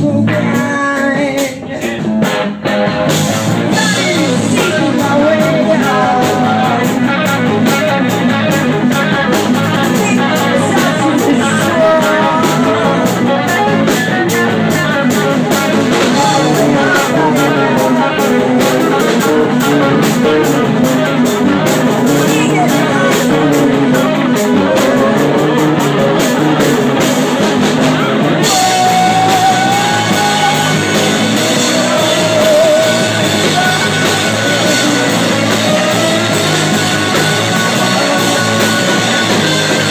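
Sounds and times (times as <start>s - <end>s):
person singing: 0.0s - 2.5s, 3.6s - 39.9s
drums: 0.0s - 39.9s
electric guitar: 0.0s - 39.9s.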